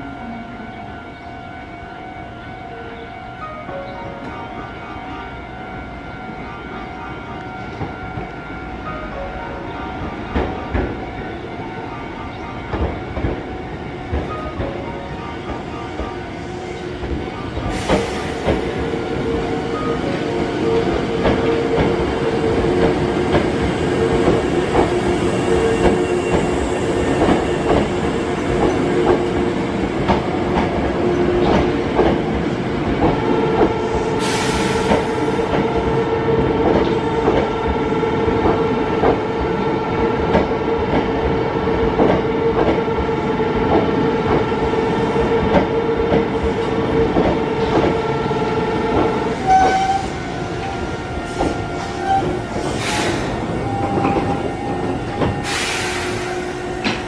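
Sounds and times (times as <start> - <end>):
train whine: 0.0 - 57.0.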